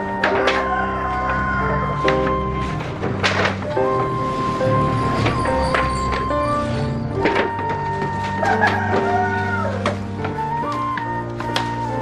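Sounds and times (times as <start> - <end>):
held melodic notes: 0.0 - 12.0.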